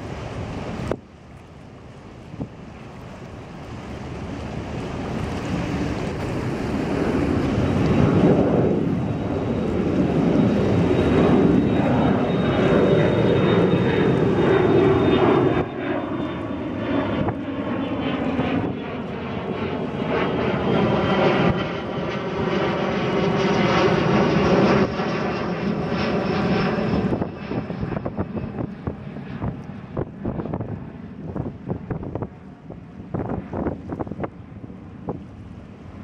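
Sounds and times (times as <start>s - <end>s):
wind buffeting microphone: 0.0s - 22.6s, 24.2s - 36.0s.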